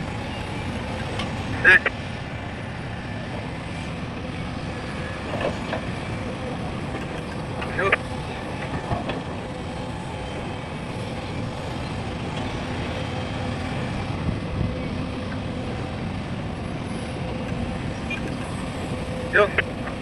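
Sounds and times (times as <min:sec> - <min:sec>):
heavy diesel machinery droning: 0:00.0 - 0:20.0.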